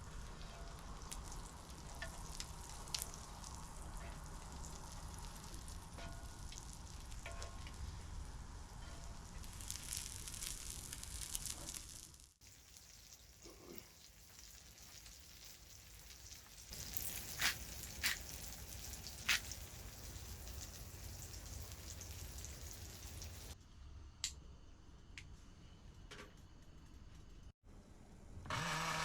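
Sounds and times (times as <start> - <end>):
sizzling hiss: 0.0 - 23.6.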